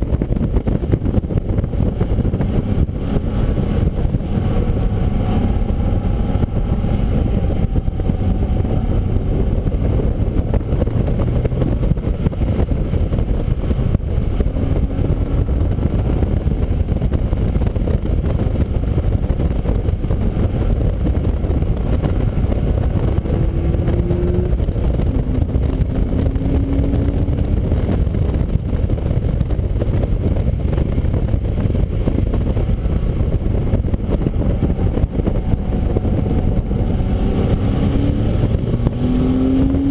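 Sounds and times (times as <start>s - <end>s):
car engine running: 0.0s - 39.9s
wind tyre and water-spray rush: 0.0s - 39.9s.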